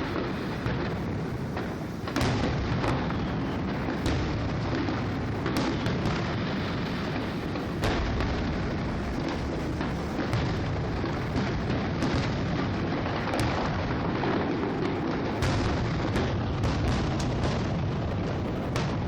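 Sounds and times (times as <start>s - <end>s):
aerial fireworks booming: 0.0s - 19.0s
sharp firework reports: 0.0s - 19.0s.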